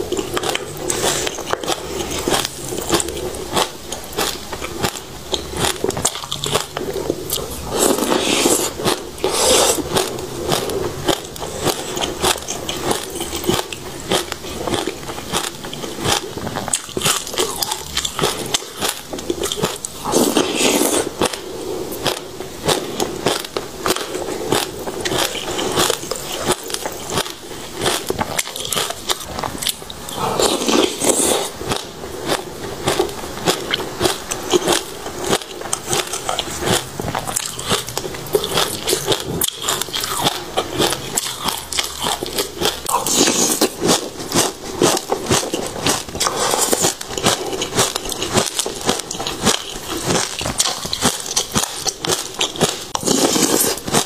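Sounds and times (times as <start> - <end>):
crunching fruit seeds: 0.0 - 54.0.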